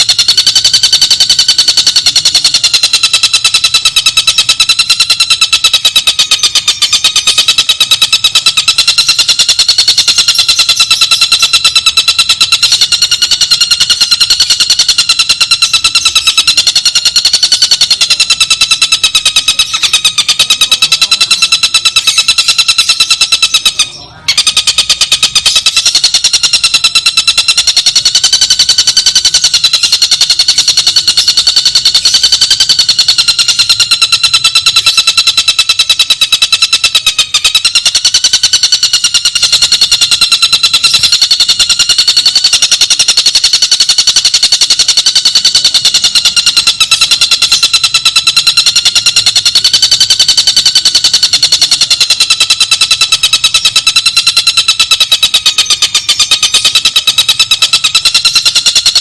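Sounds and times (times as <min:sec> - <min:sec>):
bird rattling trill: 0:00.0 - 0:59.0.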